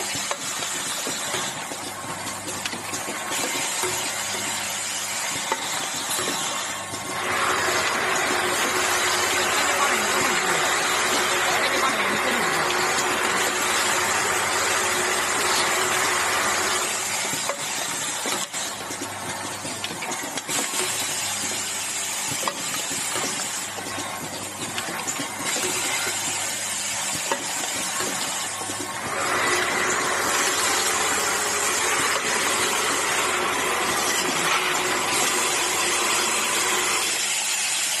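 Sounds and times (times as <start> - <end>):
assembly machine hissing: 3.1 - 18.8, 20.3 - 38.0.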